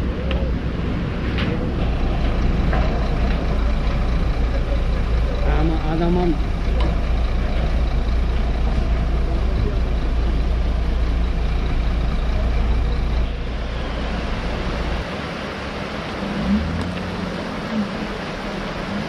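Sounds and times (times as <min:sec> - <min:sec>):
heavy vehicle engine rumbling: 0:00.0 - 0:19.0.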